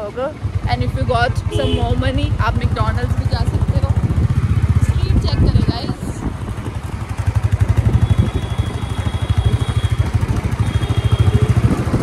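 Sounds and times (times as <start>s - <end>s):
motorcycle engine: 0.0s - 12.0s
road noise: 0.0s - 12.0s
wind rumbling on microphone: 0.8s - 12.0s.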